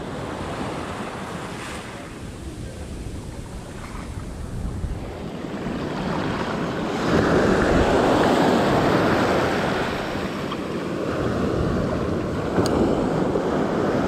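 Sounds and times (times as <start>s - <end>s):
sea waves washing up beach: 0.0s - 14.0s
wind on microphone: 0.0s - 14.0s.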